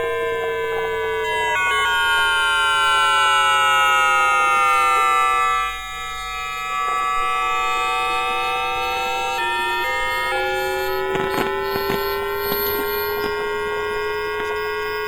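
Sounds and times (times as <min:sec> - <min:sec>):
whining electric inverter tones: 0:00.0 - 0:15.0.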